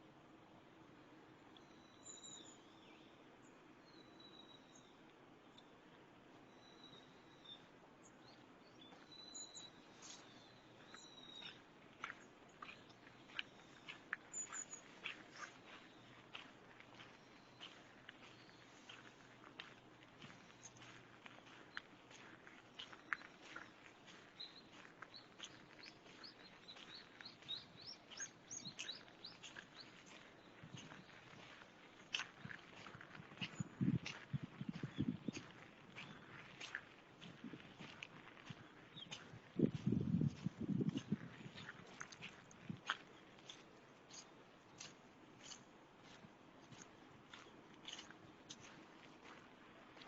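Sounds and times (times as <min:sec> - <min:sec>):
small songbird chirping: 0:01.5 - 0:05.7, 0:06.5 - 0:48.8.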